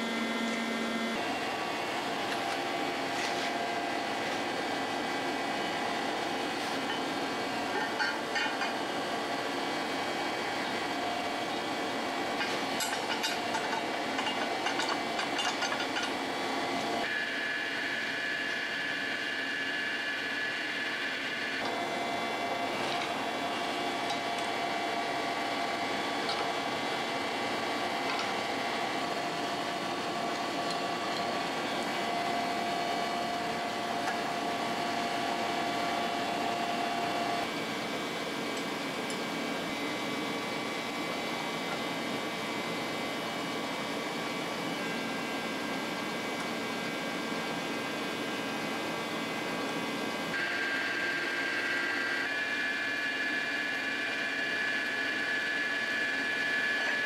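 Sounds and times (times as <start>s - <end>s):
workshop hum: 0.0s - 57.0s.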